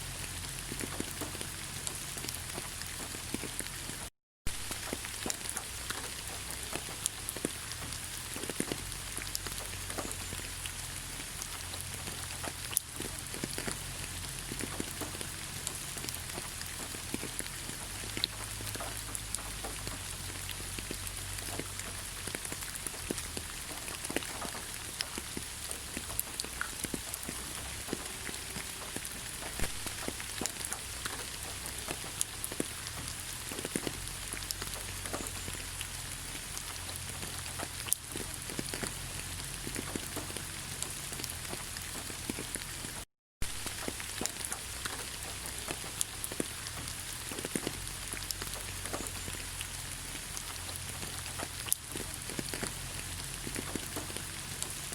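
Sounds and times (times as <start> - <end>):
raindrops striking close by: 0.0 - 54.9
steady rain hiss: 0.0 - 54.9.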